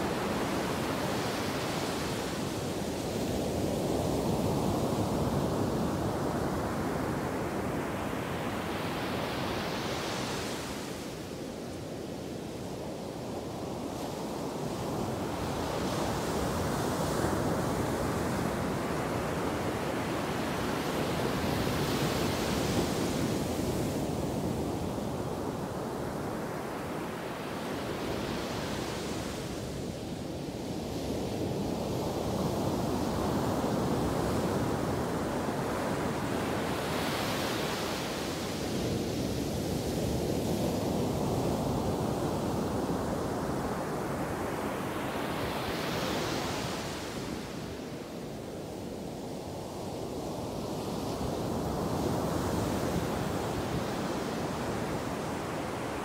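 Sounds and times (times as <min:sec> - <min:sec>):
continuous roar of surf: 0:00.0 - 0:56.0
waves crashing on beach: 0:00.0 - 0:56.0.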